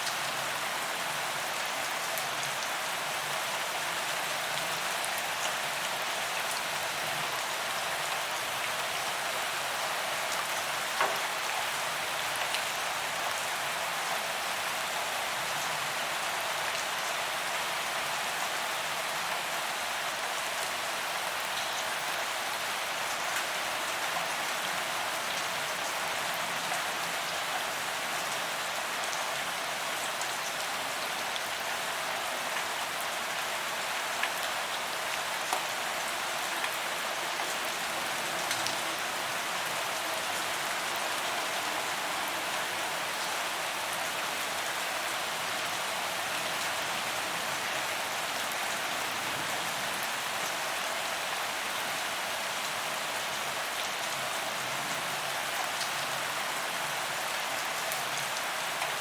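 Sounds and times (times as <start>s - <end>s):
rain on pavement: 0.0s - 59.0s.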